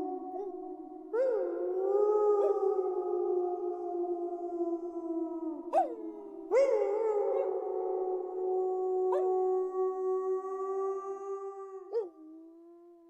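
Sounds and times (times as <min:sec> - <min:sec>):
wolves howling: 0:00.0 - 0:12.2.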